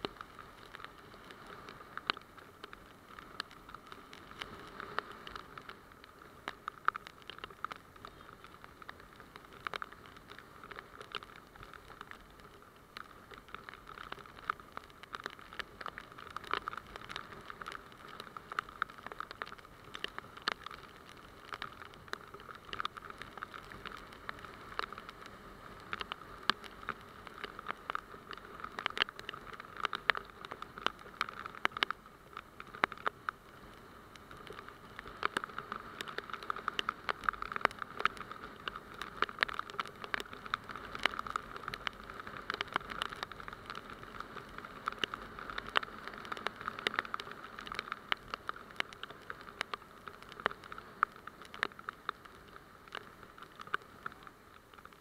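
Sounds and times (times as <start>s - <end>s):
rain hissing on wet road: 0.0s - 55.0s
raindrops ticking on camera: 0.0s - 55.0s.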